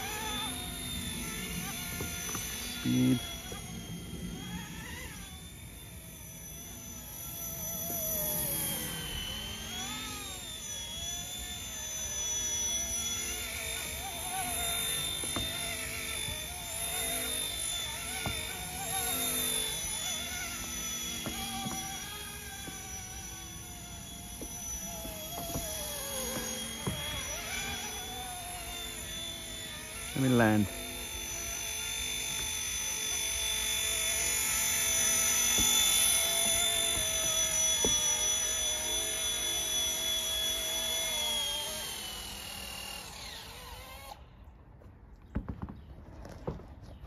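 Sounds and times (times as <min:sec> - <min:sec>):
rc helicopter motor and rotor whine: 0:00.0 - 0:47.0.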